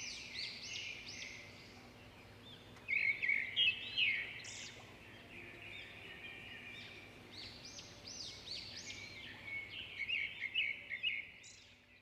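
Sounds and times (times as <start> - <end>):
birds chirping and calling: 0.0 - 11.9.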